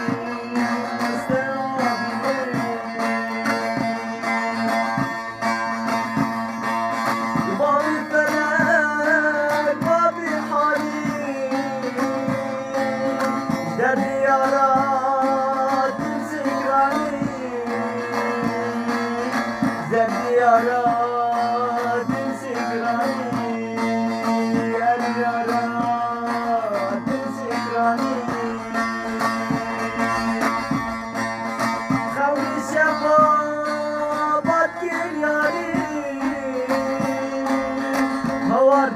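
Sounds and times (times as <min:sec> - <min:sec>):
person singing: 0:00.0 - 0:06.0, 0:07.4 - 0:30.9, 0:31.9 - 0:38.9
plucked strings: 0:00.0 - 0:38.9.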